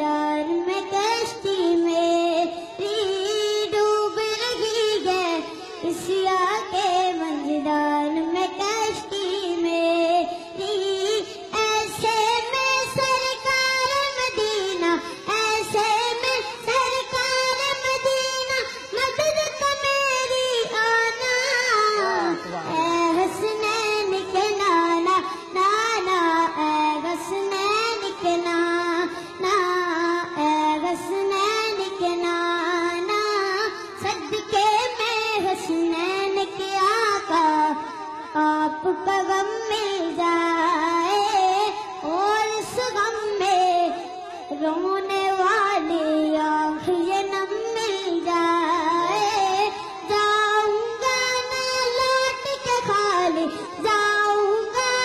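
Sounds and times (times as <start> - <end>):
boy singing into a microphone: 0.0 - 55.0.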